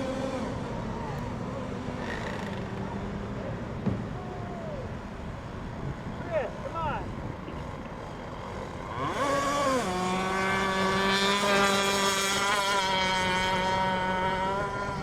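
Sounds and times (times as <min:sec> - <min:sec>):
rc boat engine high drone: 0:00.0 - 0:15.0.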